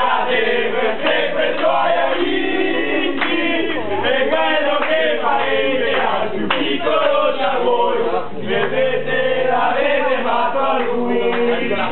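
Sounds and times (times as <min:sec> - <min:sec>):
group of voices singing in chorus: 0:00.0 - 0:11.9.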